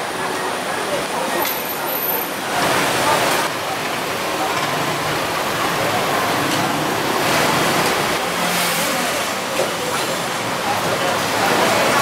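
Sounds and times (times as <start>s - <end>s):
faint voices: 0.0s - 12.0s
road traffic roar: 0.0s - 12.0s.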